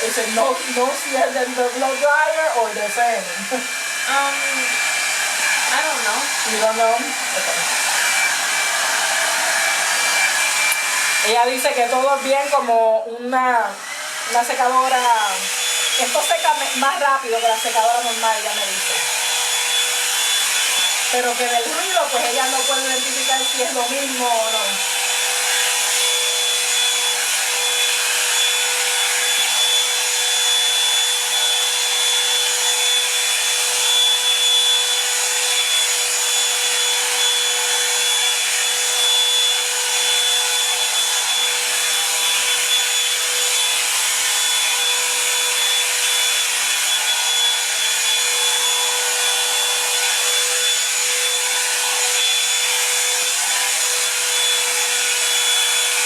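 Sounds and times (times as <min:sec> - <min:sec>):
hot-air brush running: 0:00.0 - 0:56.0.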